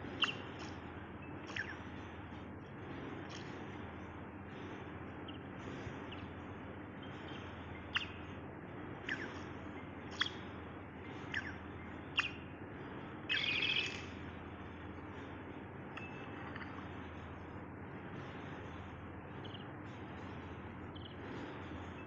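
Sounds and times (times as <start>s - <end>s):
bird chirping and twittering: 0.0s - 15.4s, 18.2s - 22.0s
steady background hum: 0.0s - 22.0s.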